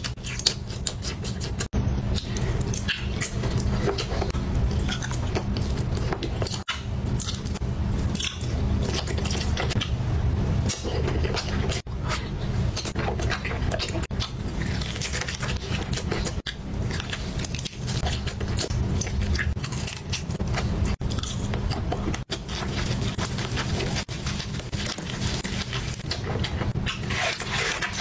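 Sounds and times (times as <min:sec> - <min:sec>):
person biting and chewing: 0:00.0 - 0:10.0, 0:10.6 - 0:28.0
low hum: 0:01.7 - 0:28.0.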